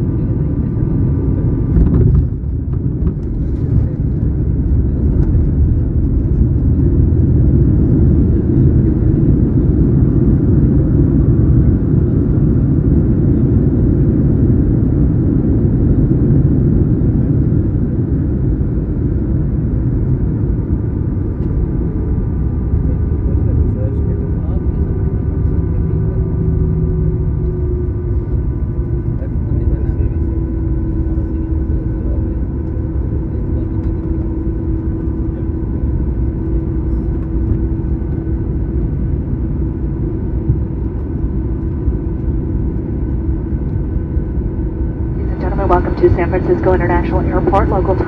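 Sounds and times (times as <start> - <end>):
heavy rumble inside cabin: 0.0 - 48.0.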